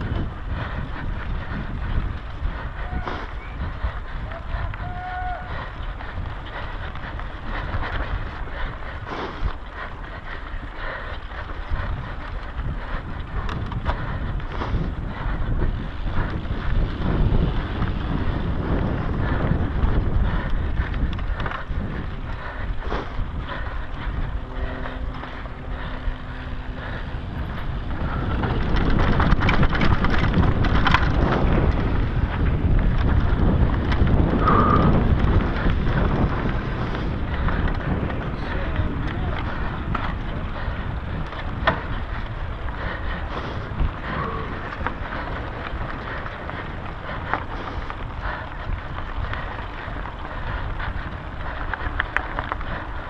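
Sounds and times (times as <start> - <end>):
bike rattling: 0.0 - 53.0
bike tyres on dirt: 0.0 - 53.0
wind buffeting microphone: 0.0 - 53.0.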